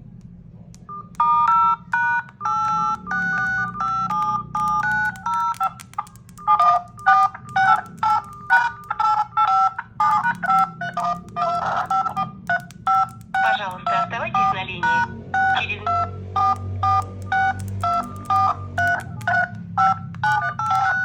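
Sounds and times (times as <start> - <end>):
phone keypad tones: 0.8 - 21.0.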